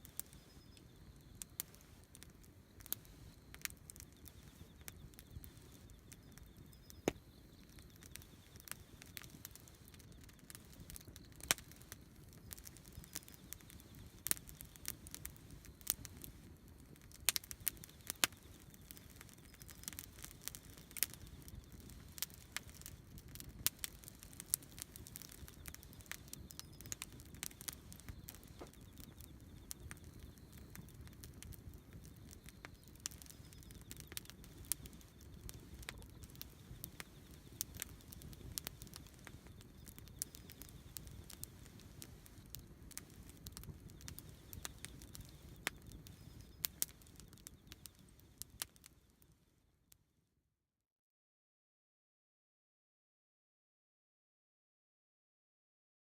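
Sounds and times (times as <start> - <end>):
campfire crackling and popping: 0.0 - 49.4.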